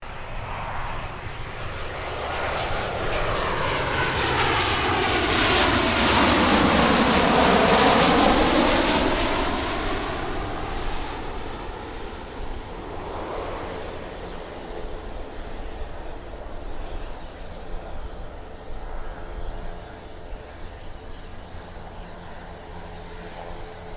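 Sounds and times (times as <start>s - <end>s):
jet plane passing overhead: 0.0s - 23.9s.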